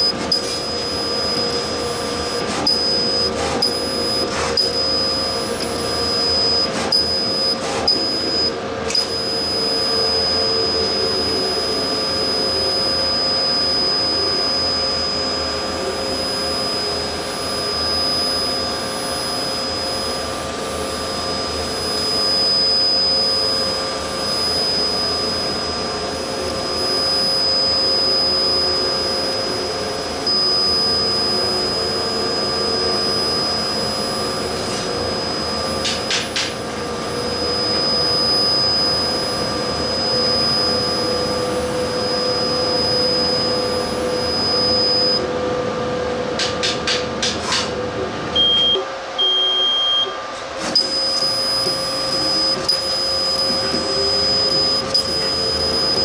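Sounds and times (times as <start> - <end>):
high steady whine: 0.0 - 56.0
laser cutter machine whir: 0.0 - 56.0.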